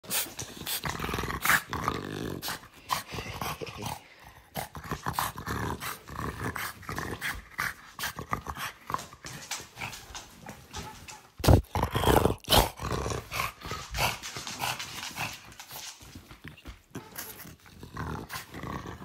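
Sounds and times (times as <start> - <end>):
dog growling: 0.4 - 10.2, 11.4 - 15.9, 17.3 - 19.0.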